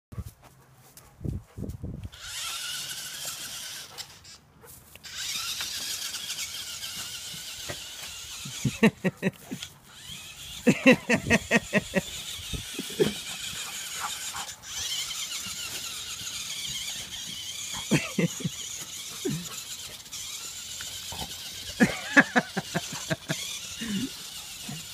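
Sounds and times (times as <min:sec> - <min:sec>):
toy truck motor whirring: 0:02.0 - 0:24.9.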